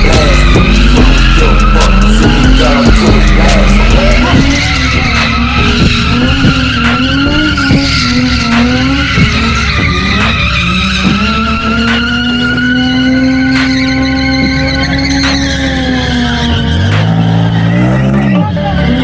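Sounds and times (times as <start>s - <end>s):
car engine at high revs: 0.0s - 19.0s
tyres skidding and squealing: 0.0s - 19.0s.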